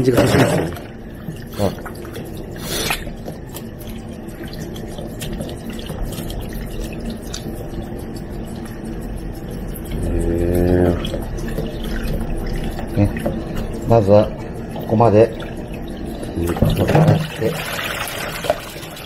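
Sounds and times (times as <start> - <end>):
tap water running: 0.0 - 19.0
water splashing into a bowl: 0.2 - 19.0.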